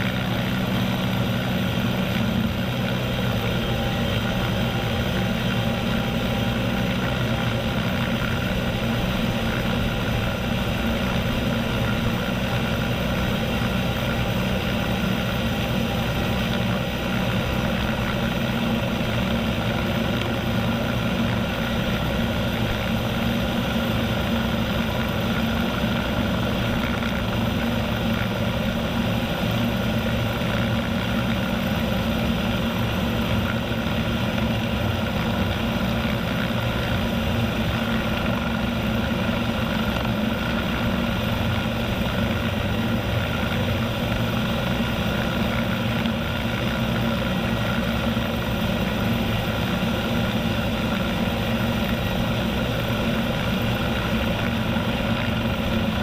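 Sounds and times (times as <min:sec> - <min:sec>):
helicopter engines and rotor: 0:00.0 - 0:56.0.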